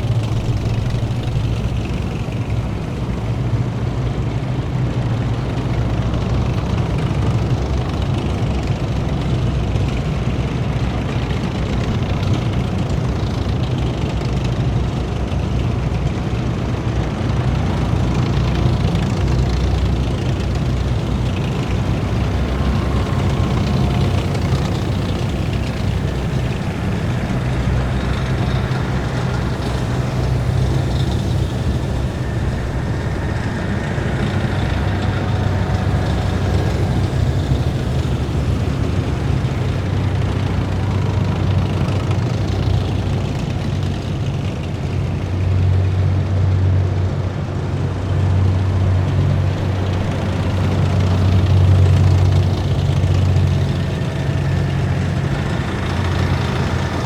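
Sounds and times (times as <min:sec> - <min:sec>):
heavy vehicle engines rumbling: 0:00.0 - 0:57.0.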